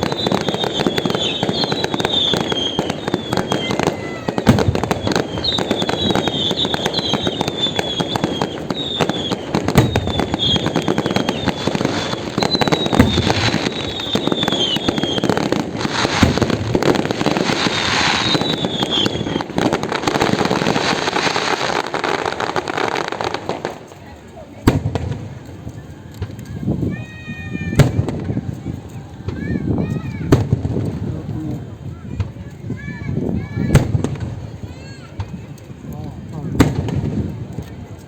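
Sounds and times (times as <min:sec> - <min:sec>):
fireworks crackling and banging: 0:00.0 - 0:38.0
fireworks whistling: 0:00.0 - 0:38.0.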